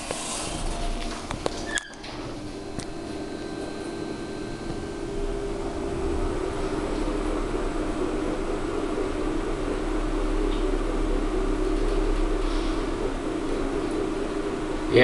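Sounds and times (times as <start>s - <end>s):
lift humming: 0.0s - 15.0s.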